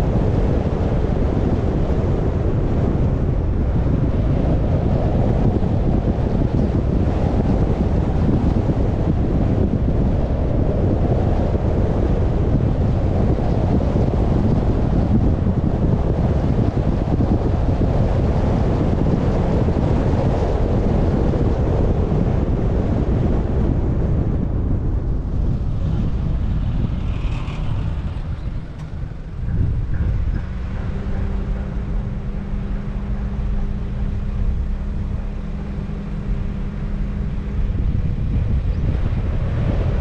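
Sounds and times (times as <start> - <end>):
car road noise: 0.0 - 40.0
wind buffeting microphone: 0.0 - 40.0.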